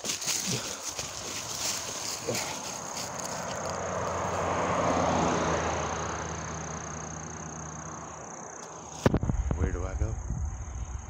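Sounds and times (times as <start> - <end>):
vehicle passing on road: 0.0 - 9.5.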